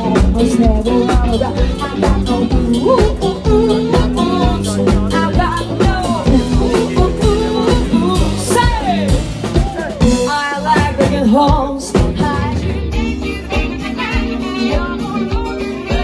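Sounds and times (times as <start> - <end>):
bass guitar: 0.0 - 16.0
drums: 0.0 - 16.0
electric guitar: 0.0 - 16.0
woman singing into microphone: 0.0 - 16.0.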